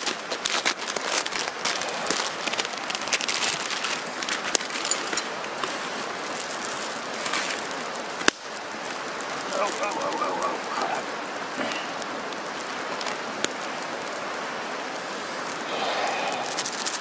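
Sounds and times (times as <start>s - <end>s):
campfire crackling and popping: 0.0s - 17.0s
pot of water boiling: 0.0s - 17.0s.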